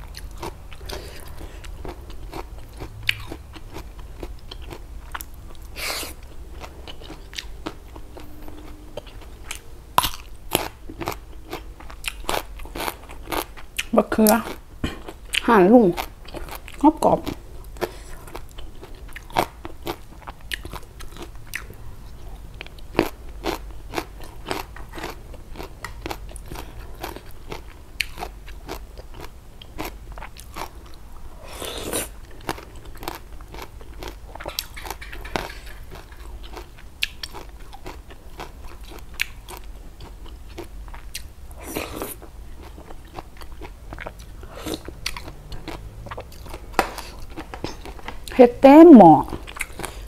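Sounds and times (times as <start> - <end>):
person chewing crunchy vegetables: 0.0 - 48.4, 49.3 - 50.0.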